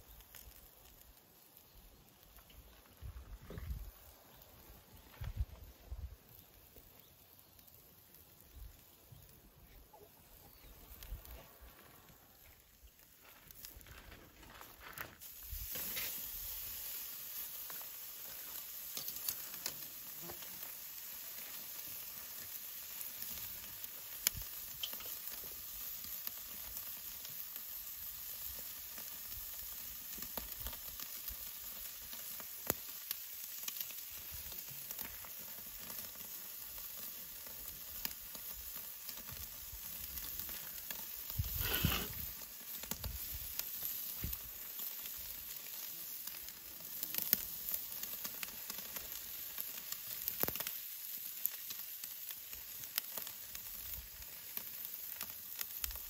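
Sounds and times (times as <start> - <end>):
food sizzling with pops: 0.0 - 56.0.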